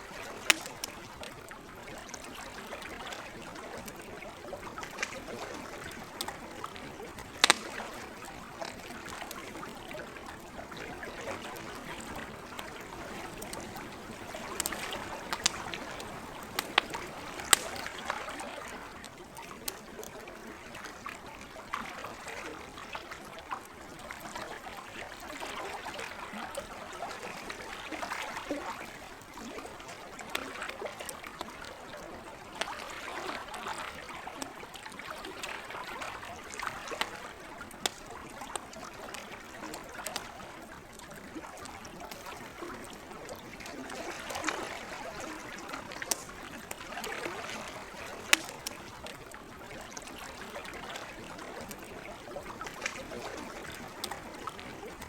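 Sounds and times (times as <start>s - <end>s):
campfire crackling: 0.0s - 22.2s, 27.2s - 55.0s
lake water lapping: 0.0s - 55.0s.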